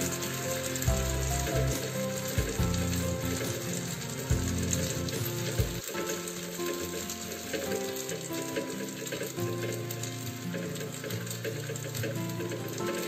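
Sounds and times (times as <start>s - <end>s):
background music: 0.0s - 13.0s
batter sizzling on hot pan: 0.0s - 13.0s.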